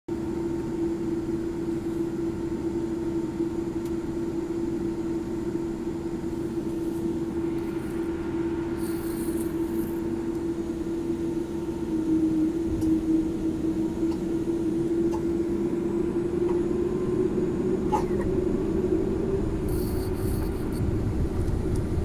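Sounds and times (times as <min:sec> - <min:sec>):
airplane drone: 0:00.1 - 0:22.0.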